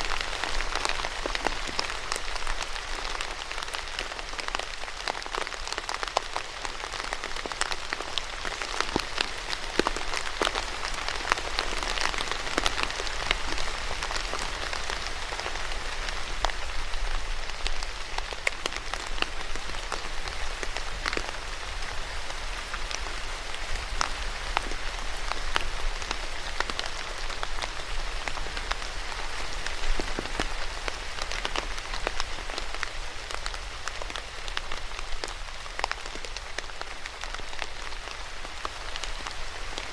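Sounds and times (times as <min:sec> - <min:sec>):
rain drops tapping on a surface: 0:00.0 - 0:39.9.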